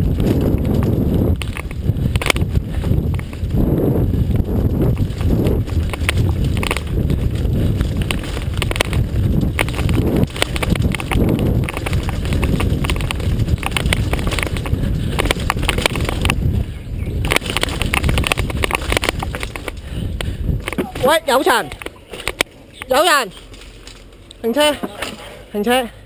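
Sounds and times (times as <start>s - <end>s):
bike rattling over rocks: 0.0s - 25.3s.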